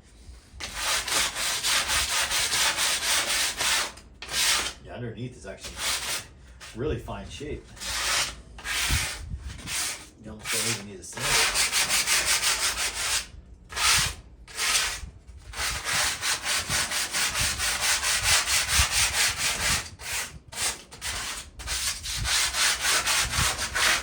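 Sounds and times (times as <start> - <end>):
sandpaper rubbing on metal: 0.6 - 4.8, 5.6 - 6.8, 7.7 - 24.0.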